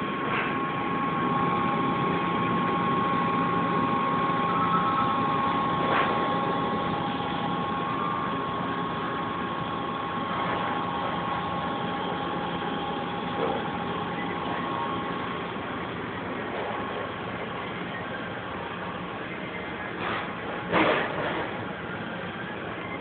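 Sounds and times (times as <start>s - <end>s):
machine hum and fan noise: 0.0s - 23.0s
high whining tones: 0.9s - 20.0s.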